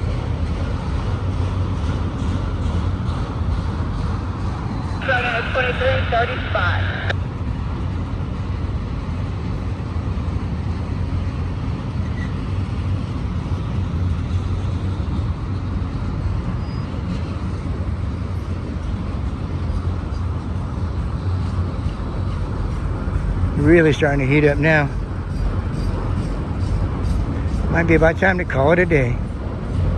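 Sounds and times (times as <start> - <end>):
constant low hum: 0.0 - 29.9
freight train wheels rumbling on rail: 0.0 - 29.9.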